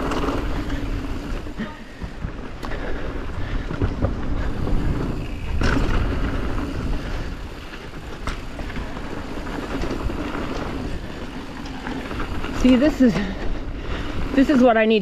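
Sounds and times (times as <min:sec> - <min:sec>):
bike knocks and rattles: 0:00.0 - 0:15.0
bike tyre rumble on dirt: 0:00.0 - 0:15.0
wind buffeting microphone: 0:00.0 - 0:15.0.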